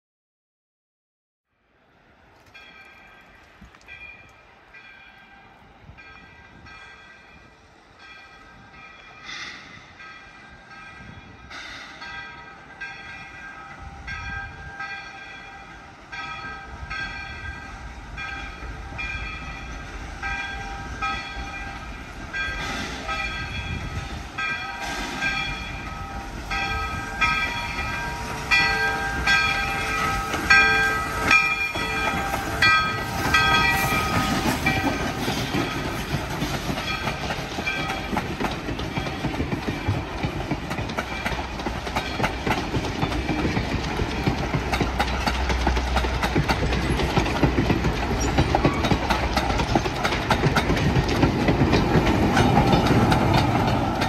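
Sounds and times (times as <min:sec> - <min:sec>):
locomotive bell ringing: 0:02.5 - 0:54.0
train wheels clattering on rails: 0:05.9 - 0:54.0.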